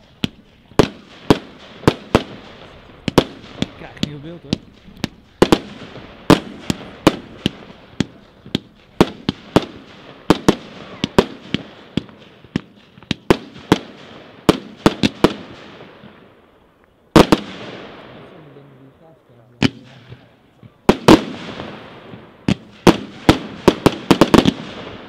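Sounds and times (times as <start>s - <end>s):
firework bangs: 0.0s - 25.0s
firework crackling: 0.0s - 25.0s.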